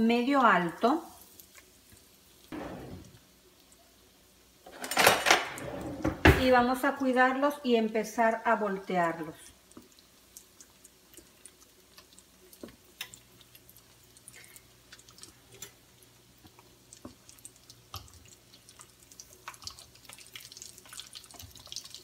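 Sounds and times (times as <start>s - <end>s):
hot oil crackling and popping: 0.0s - 5.4s, 8.5s - 22.0s.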